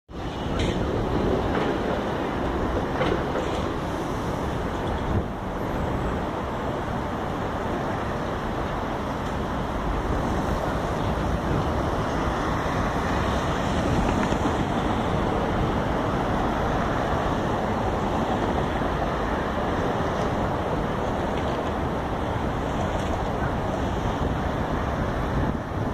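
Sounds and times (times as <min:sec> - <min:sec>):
cars passing: 0:00.1 - 0:25.9
wind on microphone: 0:00.1 - 0:25.9.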